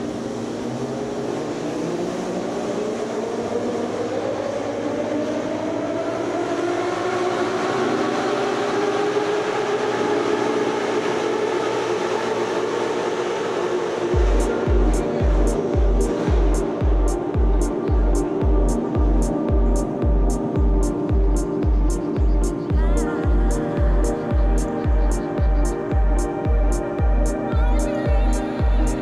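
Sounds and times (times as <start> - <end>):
train rumble: 1.2 - 29.0.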